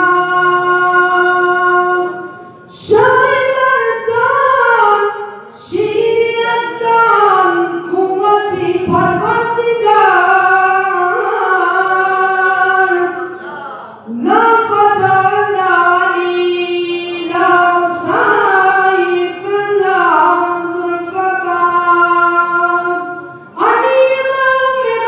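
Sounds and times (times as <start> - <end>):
boy singing unaccompanied: 0.0 - 25.0.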